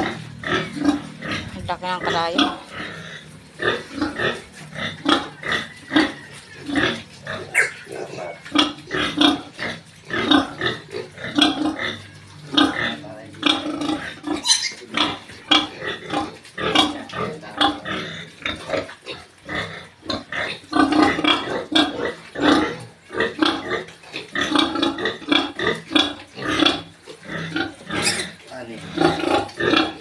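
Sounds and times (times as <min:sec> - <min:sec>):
pigs grunting and squealing: 0:00.0 - 0:30.0.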